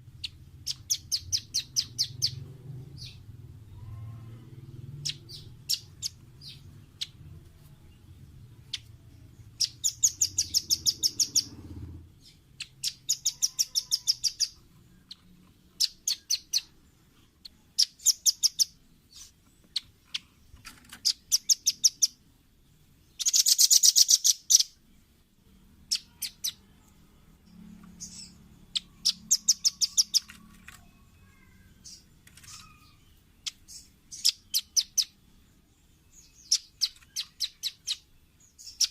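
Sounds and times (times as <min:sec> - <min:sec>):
bird trill: 0:00.1 - 0:07.3, 0:07.9 - 0:16.8, 0:17.4 - 0:20.3, 0:21.0 - 0:22.2, 0:23.1 - 0:24.8, 0:25.8 - 0:38.9.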